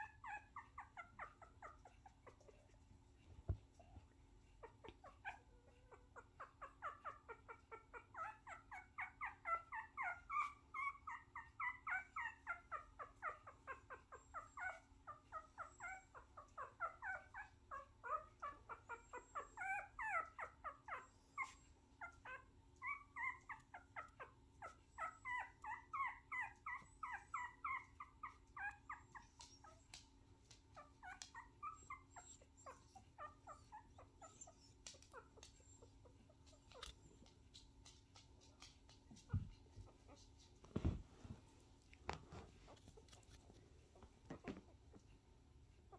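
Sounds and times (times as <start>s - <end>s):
puppy whimpering: 0.0s - 41.4s.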